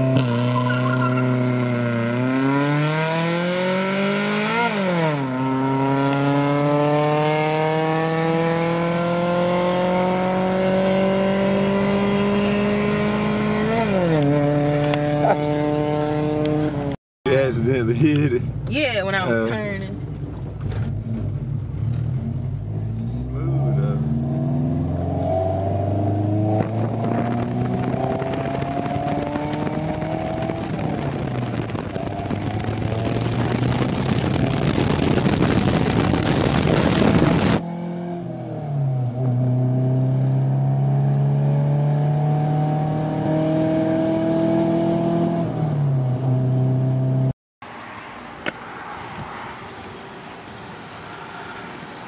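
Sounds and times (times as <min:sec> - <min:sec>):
car engine accelerating: 0:00.0 - 0:17.0, 0:19.3 - 0:47.3
road and wind rush: 0:00.0 - 0:52.0.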